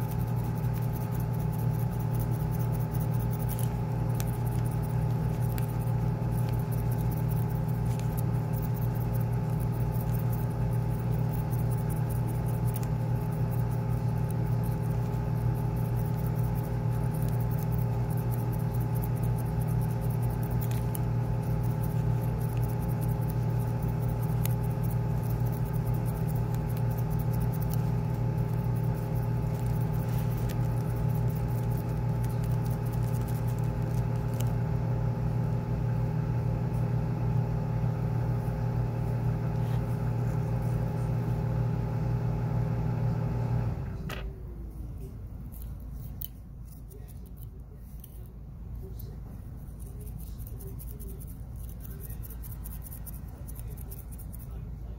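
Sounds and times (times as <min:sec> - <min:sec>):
steady machine hum: 0:00.0 - 0:54.9.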